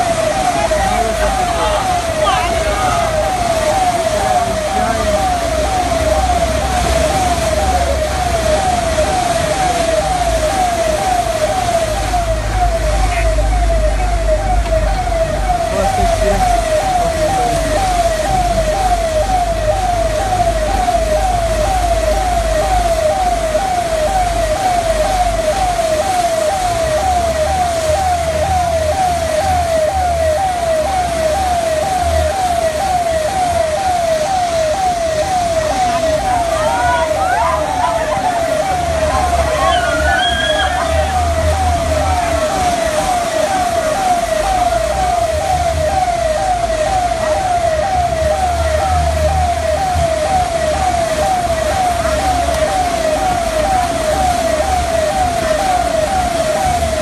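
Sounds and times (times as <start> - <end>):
yelping siren: 0.0 - 57.0.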